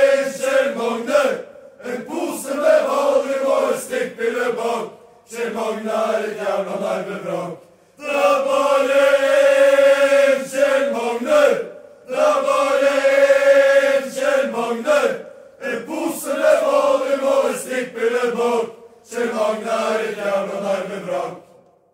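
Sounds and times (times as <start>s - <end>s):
crowd chanting in unison: 0.0s - 21.6s.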